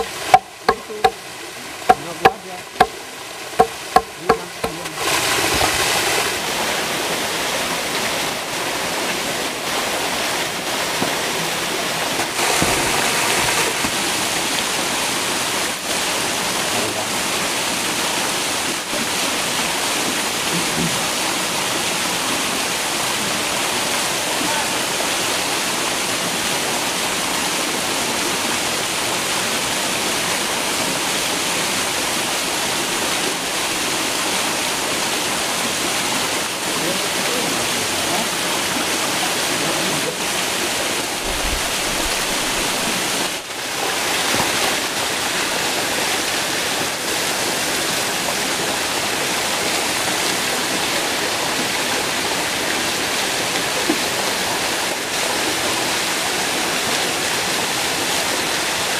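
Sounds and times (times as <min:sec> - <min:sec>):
shallow stream running: 0:00.0 - 0:58.9
small waterfall rushing: 0:00.0 - 0:58.9.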